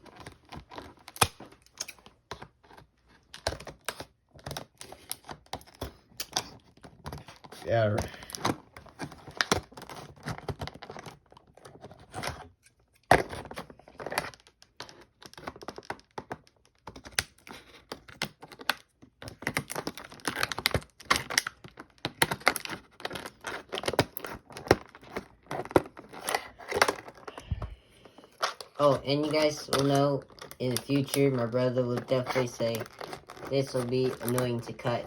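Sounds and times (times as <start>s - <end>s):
plastic packaging clicking and crackling: 0.0s - 35.0s.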